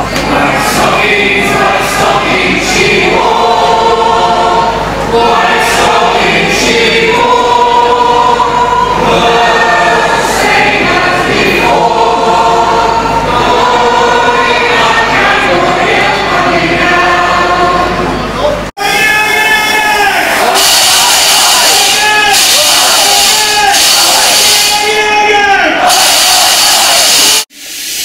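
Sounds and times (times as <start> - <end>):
choir singing long notes: 0.0 - 27.5.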